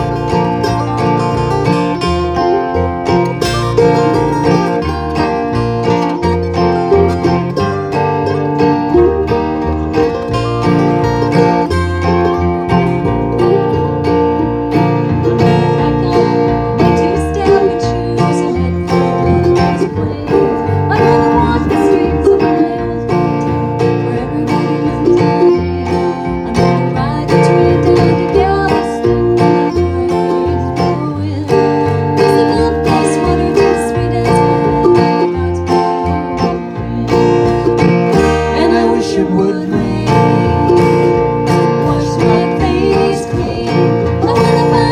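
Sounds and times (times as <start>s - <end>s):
acoustic string band playing: 0.0s - 44.9s.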